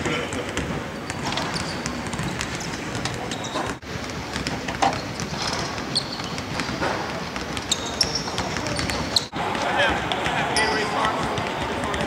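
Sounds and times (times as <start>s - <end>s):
basketballs bouncing on hardwood: 0.0s - 12.0s
hum of hall: 0.0s - 12.0s.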